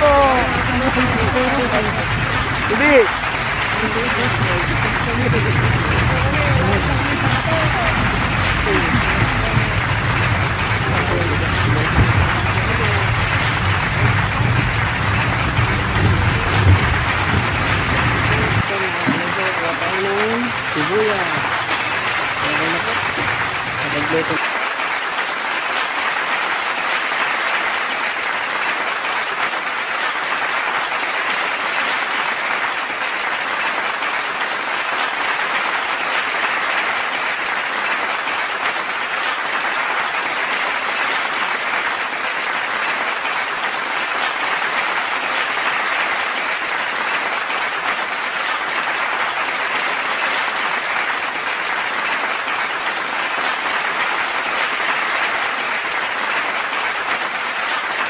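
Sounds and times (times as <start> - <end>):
crowd applauding: 0.0 - 58.0.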